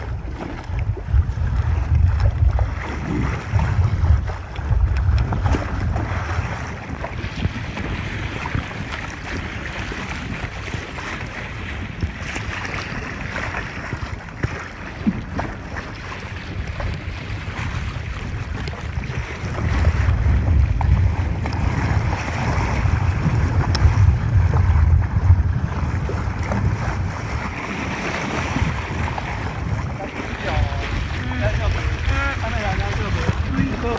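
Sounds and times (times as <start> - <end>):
surf: 0.0 - 33.9
wind buffeting microphone: 0.0 - 33.9.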